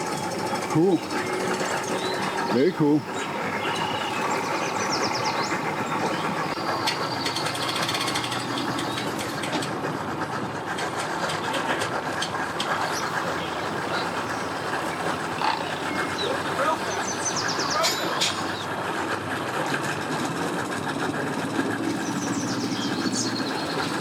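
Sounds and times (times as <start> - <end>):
boat motors and vehicles rumbling: 0.0 - 24.0.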